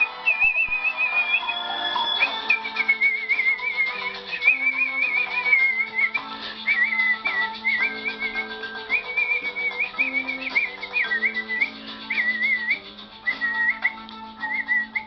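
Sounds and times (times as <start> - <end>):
karaoke backing track: 0.0 - 15.0
person whistling a melody: 0.0 - 15.0.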